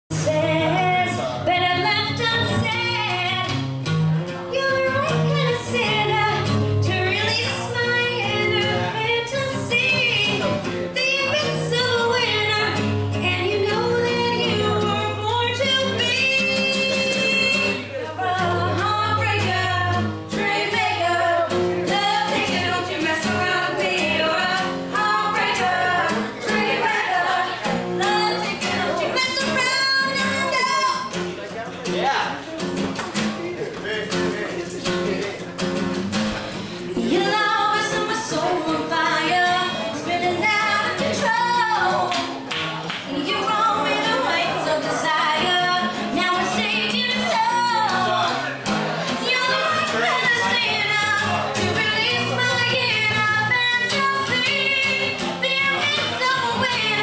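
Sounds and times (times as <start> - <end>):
women singing: 0.1 - 3.6, 4.5 - 31.1, 37.0 - 42.4, 43.0 - 57.0
strummed acoustic guitar: 0.1 - 57.0.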